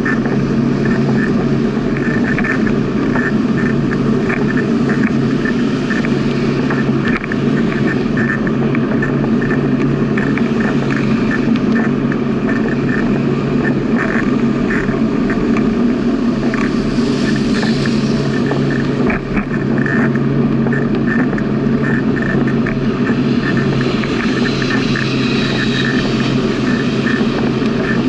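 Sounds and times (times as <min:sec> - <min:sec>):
small irregular ticks: 0:00.0 - 0:15.8, 0:16.4 - 0:28.0
bicycle rolling on asphalt: 0:00.0 - 0:28.0.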